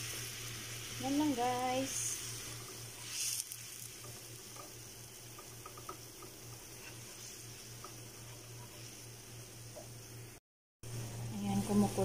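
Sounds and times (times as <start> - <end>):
water simmering in a frying pan: 0.0 - 10.4.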